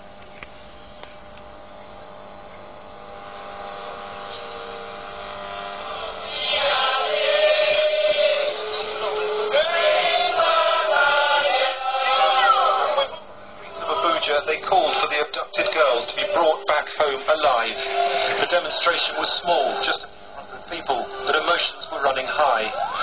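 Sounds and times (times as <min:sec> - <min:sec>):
faint radio hiss: 0:00.0 - 0:23.0
shortwave broadcast signal: 0:00.0 - 0:23.0
pitch-sliding radio whistles: 0:02.6 - 0:23.0.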